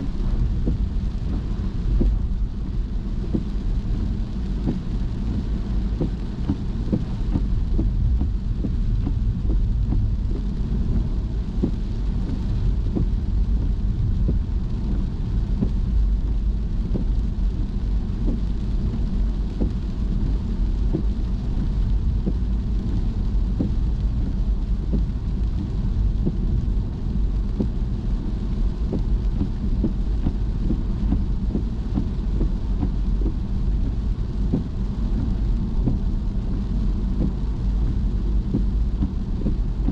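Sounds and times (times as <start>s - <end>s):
rain ticking on car: 0.0s - 39.9s.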